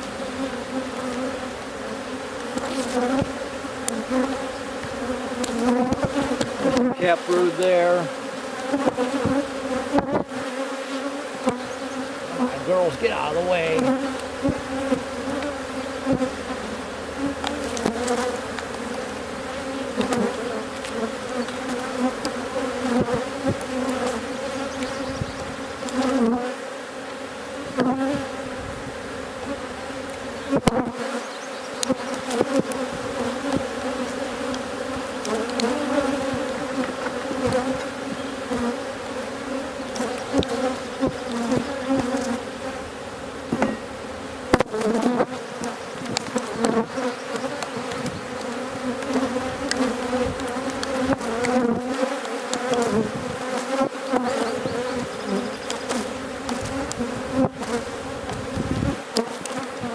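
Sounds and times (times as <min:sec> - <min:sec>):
honey bees buzzing: 0:00.0 - 0:59.9
light knocks of hive frames: 0:02.4 - 0:07.7, 0:08.7 - 0:10.6, 0:11.4 - 0:16.6, 0:17.2 - 0:26.5, 0:30.0 - 0:31.2, 0:31.8 - 0:59.9.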